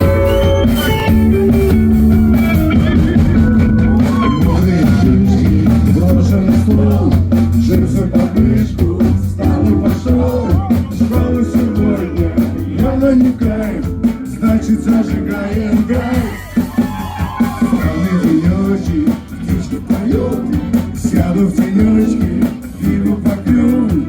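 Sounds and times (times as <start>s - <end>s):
electric guitars: 0.0s - 24.0s
steady drum beat: 0.0s - 24.0s.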